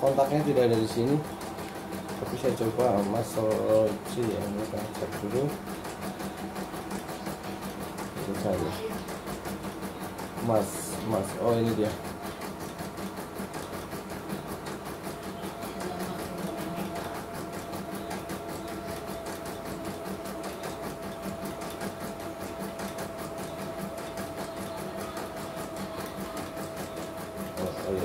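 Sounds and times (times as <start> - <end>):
embroidery machine stitching: 0.0 - 28.0.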